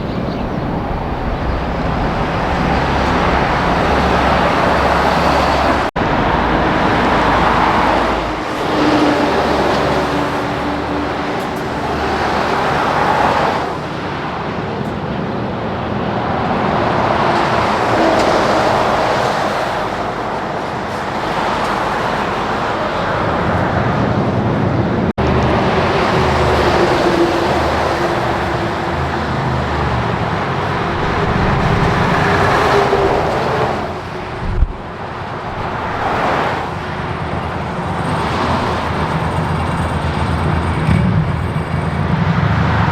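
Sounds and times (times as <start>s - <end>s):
heavy trucks passing: 0.0s - 42.9s.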